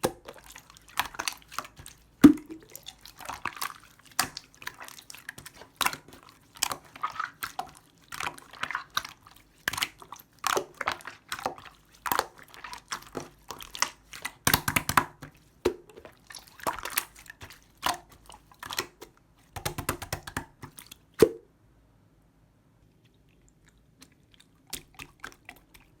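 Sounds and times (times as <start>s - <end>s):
slime squelching: 0.0s - 21.4s, 22.9s - 26.0s.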